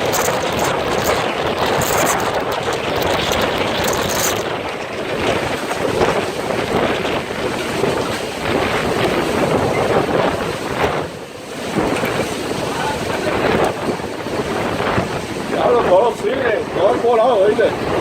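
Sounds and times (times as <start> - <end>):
loud wind gusting: 0.0 - 18.0
wind buffeting microphone: 0.0 - 18.0.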